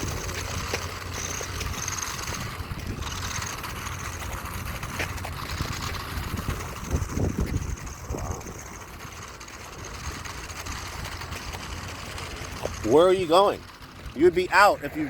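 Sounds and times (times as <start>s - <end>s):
remote-control car motor whine: 0.0s - 13.4s
low rumbles: 0.0s - 15.0s
rough running noise over dirt: 0.0s - 15.0s.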